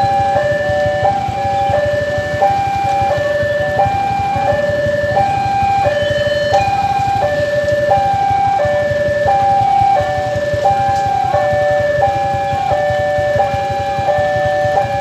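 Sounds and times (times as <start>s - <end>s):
level crossing alarm tones: 0.0s - 15.0s.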